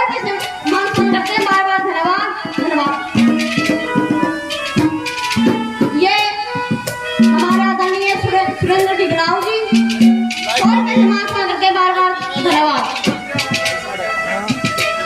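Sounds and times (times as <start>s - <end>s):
folk melody line: 0.0s - 15.0s
hand-drum strokes: 0.0s - 15.0s.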